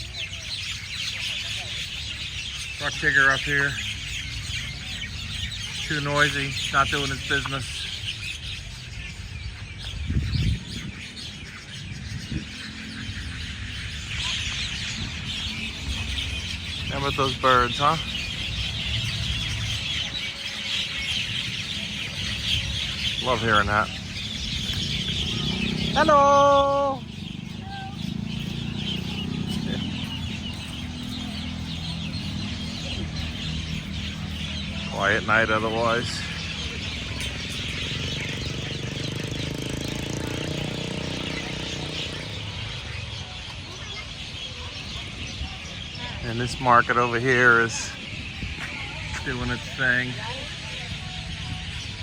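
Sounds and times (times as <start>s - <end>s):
flock of birds chirping: 0.0s - 52.0s.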